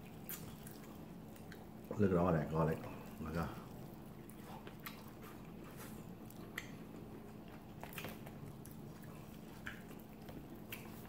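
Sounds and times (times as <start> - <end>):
chewing: 0.0 - 11.0
steady low hum: 0.0 - 11.0.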